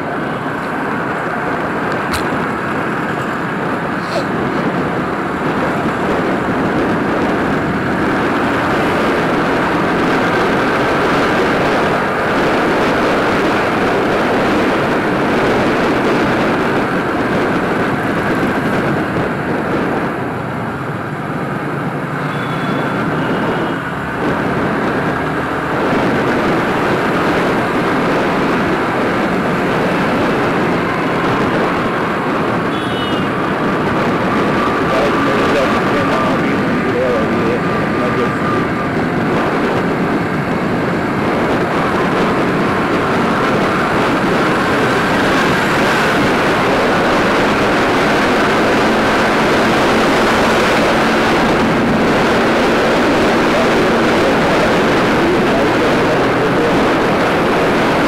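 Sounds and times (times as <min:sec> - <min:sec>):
road noise rushing: 0:00.0 - 0:58.0.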